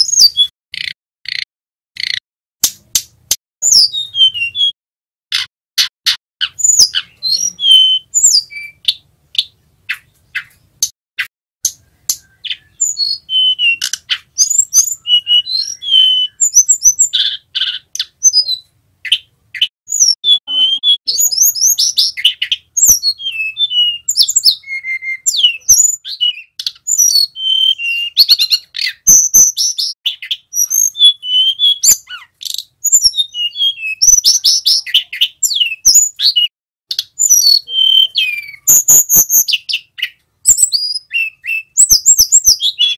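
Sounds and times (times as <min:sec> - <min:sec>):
bird singing: 0:00.0 - 0:02.2, 0:03.6 - 0:42.9.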